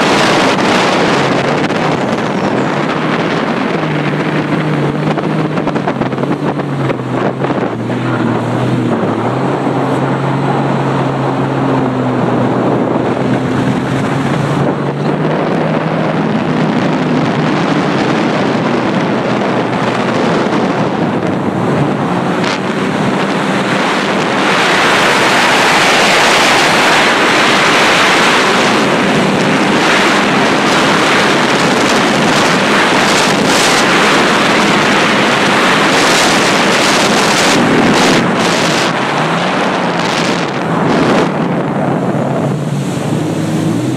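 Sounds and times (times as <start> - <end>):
jet ski engine running: 0.0 - 43.9
wind on microphone: 0.0 - 43.9.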